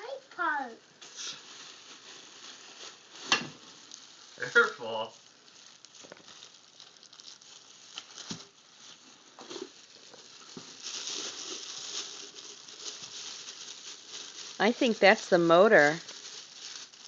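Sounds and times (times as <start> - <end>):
packaging rustling: 1.0 - 17.0.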